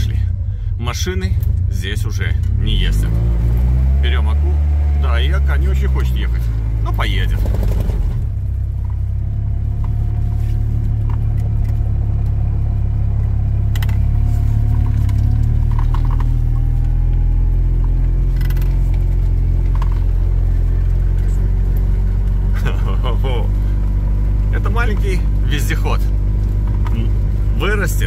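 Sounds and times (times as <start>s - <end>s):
small car engine running: 1.3s - 28.0s.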